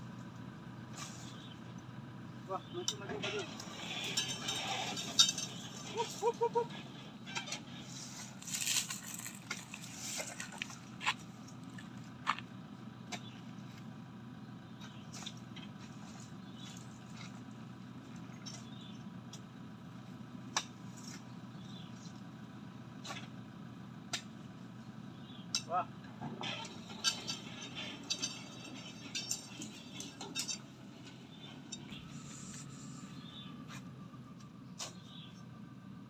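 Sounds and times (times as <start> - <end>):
pickup engine idling: 0.0 - 36.0.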